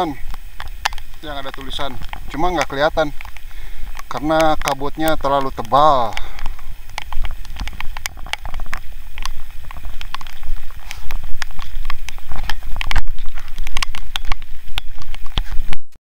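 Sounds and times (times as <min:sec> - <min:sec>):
wind buffeting microphone: 0:00.0 - 0:15.8
crackling clicks: 0:00.0 - 0:16.0.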